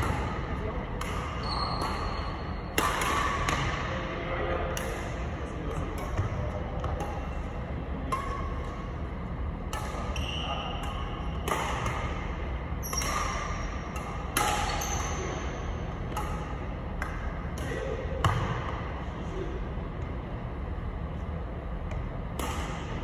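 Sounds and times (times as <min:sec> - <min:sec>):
rackets hitting shuttlecock: 0:00.0 - 0:19.1, 0:21.8 - 0:23.0
low hum: 0:00.0 - 0:23.0.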